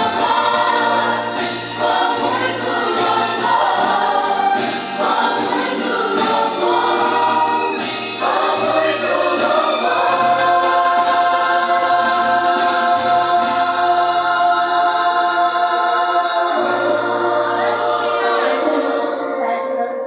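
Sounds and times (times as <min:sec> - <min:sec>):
group singing a hymn: 0:00.0 - 0:19.3.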